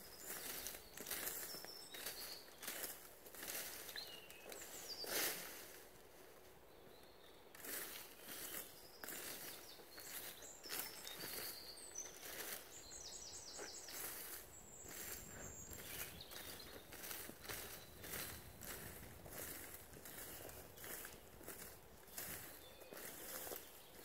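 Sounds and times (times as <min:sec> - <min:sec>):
small birds chirping: 0:00.0 - 0:24.0
dry leaves rustling and scraping: 0:00.2 - 0:05.7, 0:07.6 - 0:12.8, 0:13.8 - 0:24.0.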